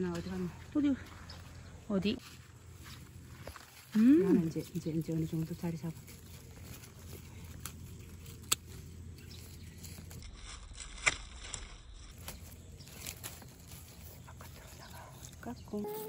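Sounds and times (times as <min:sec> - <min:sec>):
leaves and netting rustling: 0:00.0 - 0:16.0
low outdoor rumble: 0:00.0 - 0:16.0.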